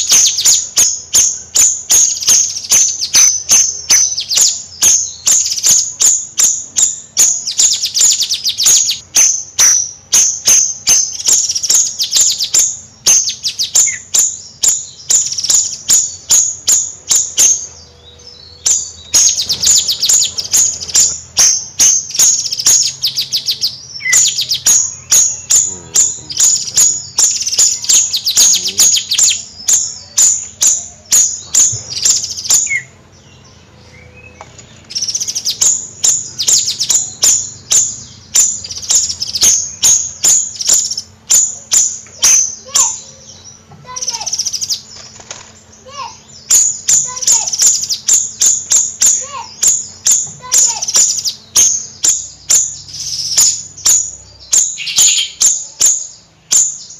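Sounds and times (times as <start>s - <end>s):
songbird chattering song: 0.0s - 56.9s.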